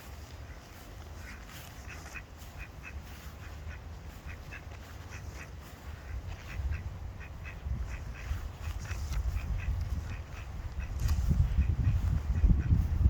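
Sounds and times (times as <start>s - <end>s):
ducks quacking: 0.0s - 13.0s.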